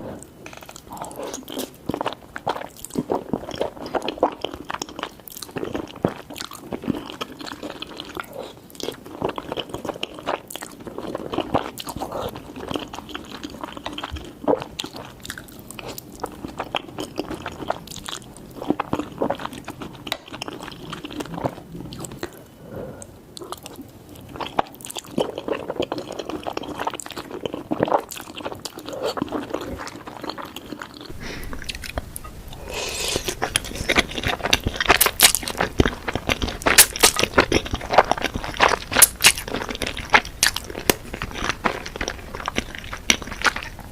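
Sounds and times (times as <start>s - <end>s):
chewing spaghetti: 0.2s - 43.9s.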